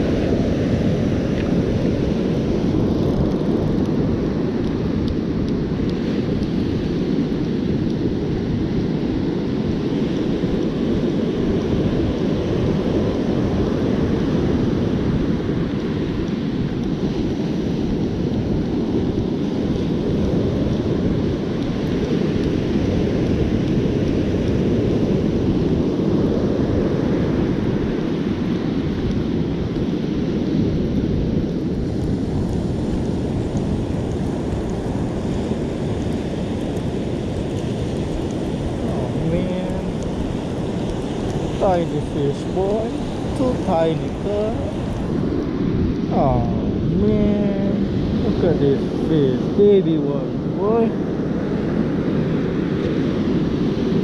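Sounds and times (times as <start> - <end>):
surf breaking on beach: 0.0 - 54.0
wind buffeting microphone: 0.0 - 54.0.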